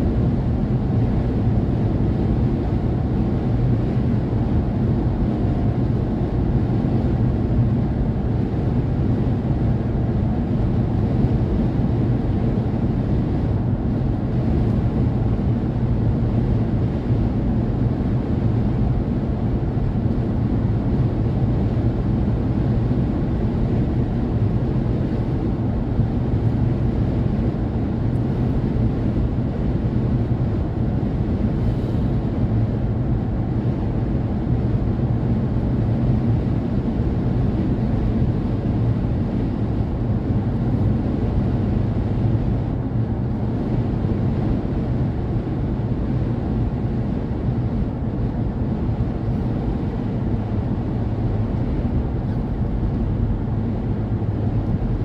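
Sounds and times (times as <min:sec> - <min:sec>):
engine and tyre rumble: 0:00.0 - 0:55.0
wind noise: 0:00.0 - 0:55.0.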